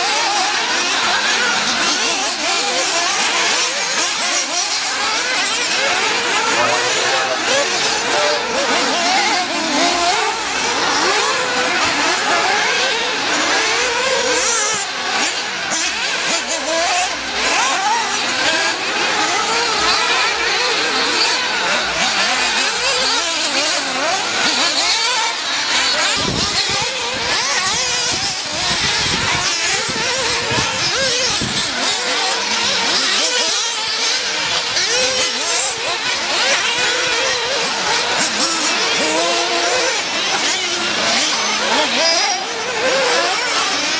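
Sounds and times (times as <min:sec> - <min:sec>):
rc car engines whining: 0:00.0 - 0:43.9.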